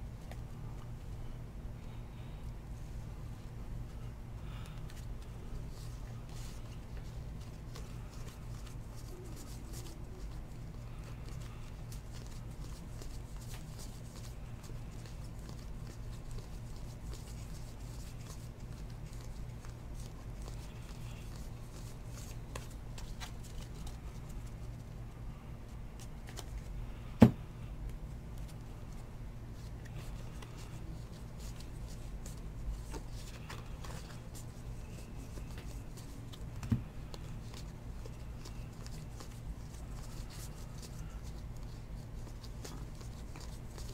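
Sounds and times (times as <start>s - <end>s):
low electrical hum: 0.0s - 43.9s
cards shuffling and sliding: 4.6s - 24.8s, 25.9s - 27.4s, 29.6s - 43.9s.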